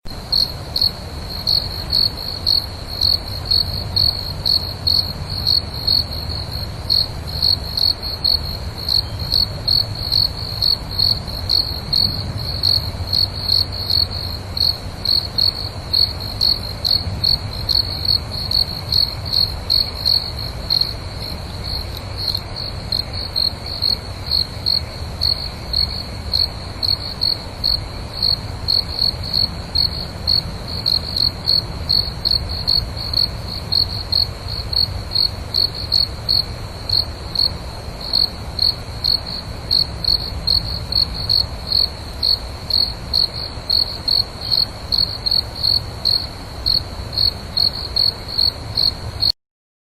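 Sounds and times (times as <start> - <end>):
crickets chirping: 0.1 - 49.3.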